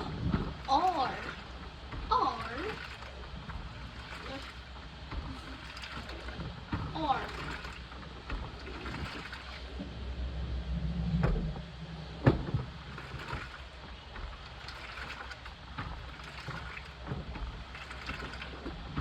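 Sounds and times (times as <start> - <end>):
washing machine drum rumbling: 0.0 - 19.0.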